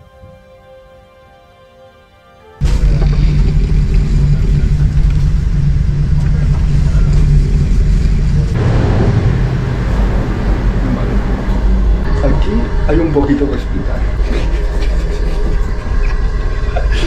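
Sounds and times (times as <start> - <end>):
train rumble inside carriage: 2.6 - 17.0.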